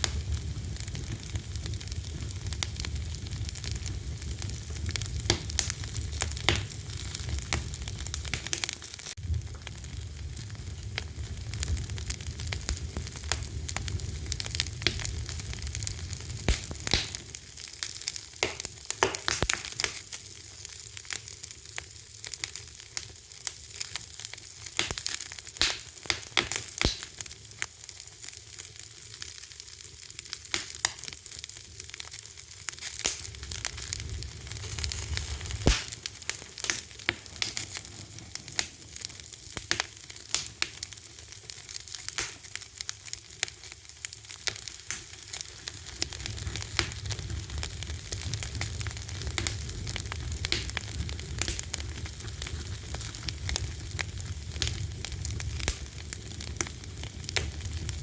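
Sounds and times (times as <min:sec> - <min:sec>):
low rumble of flame: 0:00.0 - 0:29.4, 0:30.0 - 0:58.0
wood fire crackling: 0:00.0 - 0:58.0.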